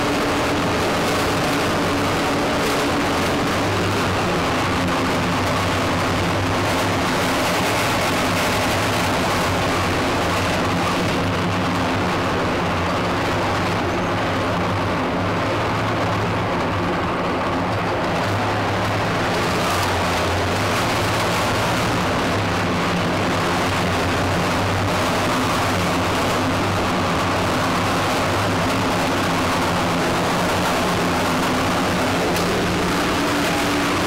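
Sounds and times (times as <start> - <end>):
diesel engine droning: 0.0 - 34.0.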